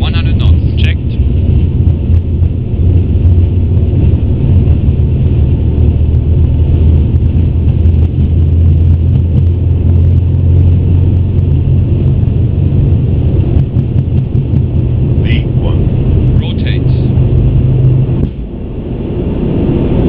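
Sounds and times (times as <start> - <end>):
jet engines and wheels rumbling: 0.0 - 20.0.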